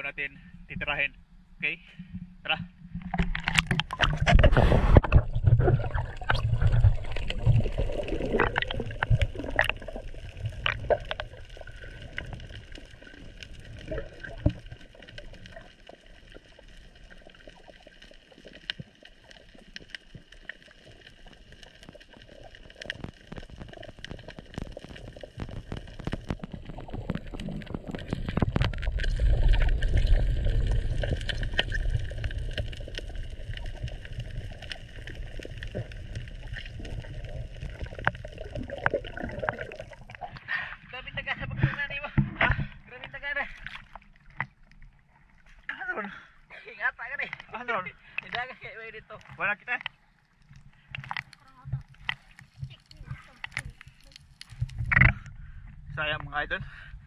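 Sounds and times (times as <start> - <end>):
underwater clicks and crackles: 2.0 - 57.0
underwater water rush: 2.0 - 57.0.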